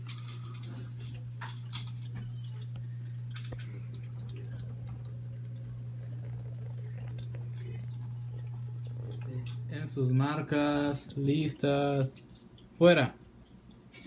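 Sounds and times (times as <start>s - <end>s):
aquarium filter pump hum: 0.0s - 14.0s
water dripping and trickling: 0.0s - 14.0s.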